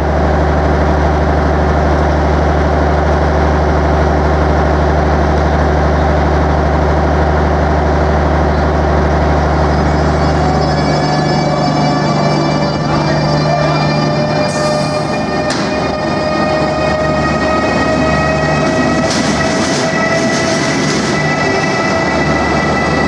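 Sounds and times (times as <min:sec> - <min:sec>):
standing train humming: 0:00.0 - 0:23.0.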